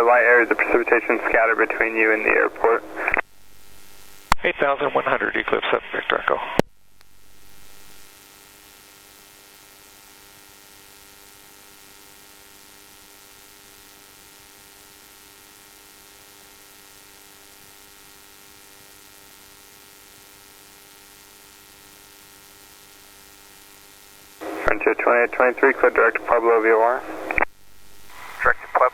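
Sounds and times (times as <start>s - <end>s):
electrical hum with hiss: 0.0s - 28.9s.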